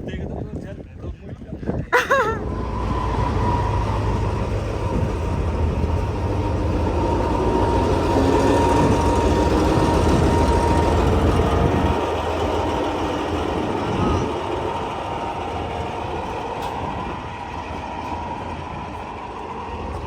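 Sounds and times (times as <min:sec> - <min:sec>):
train rumbling: 0:01.9 - 0:20.0.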